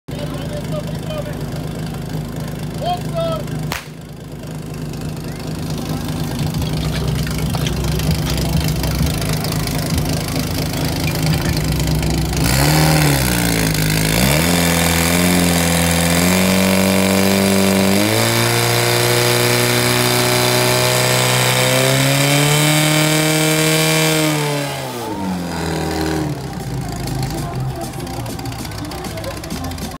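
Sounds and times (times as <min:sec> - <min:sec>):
pump engine idling and revving: 0:00.1 - 0:30.0.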